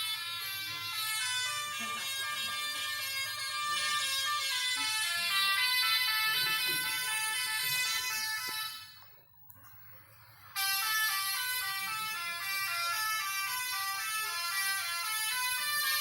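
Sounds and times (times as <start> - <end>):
tuned air horns playing tune: 0.0 - 9.0, 10.5 - 16.0.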